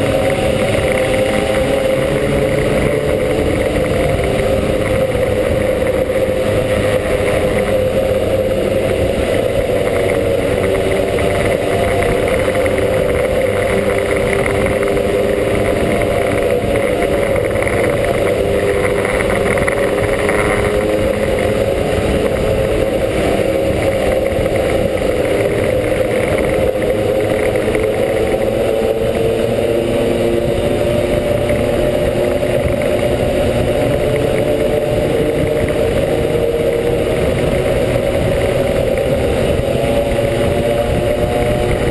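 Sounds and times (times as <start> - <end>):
scooter engine running steadily: 0.0 - 41.9.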